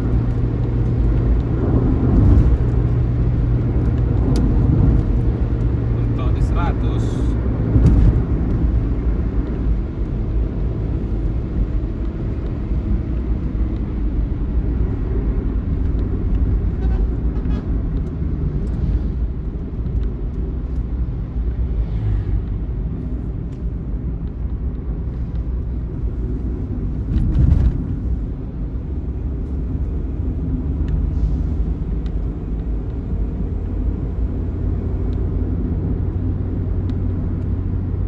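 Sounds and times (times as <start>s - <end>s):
bus engine rumbling: 0.0s - 38.0s
road noise: 0.0s - 38.0s.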